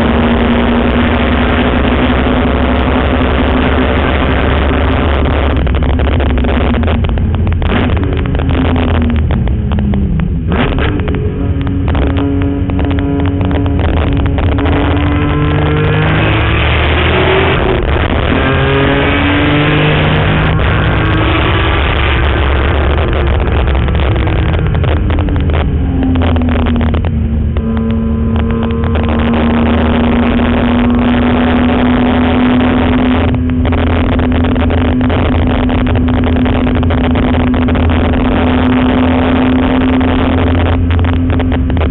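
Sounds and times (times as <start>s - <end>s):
car engine revving through gears: 0.0s - 41.9s
heavy wind: 0.0s - 41.9s
road rumble: 0.0s - 41.9s.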